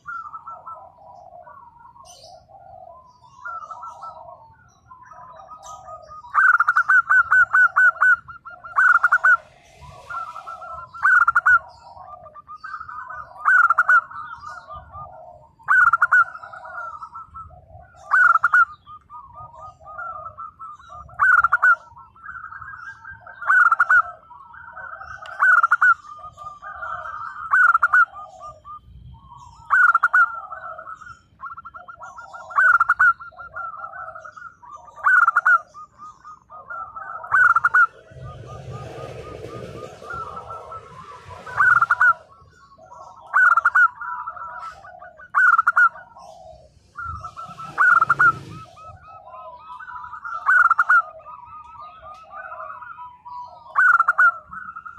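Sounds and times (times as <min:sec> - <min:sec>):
dove cooing: 0:00.0 - 0:54.9.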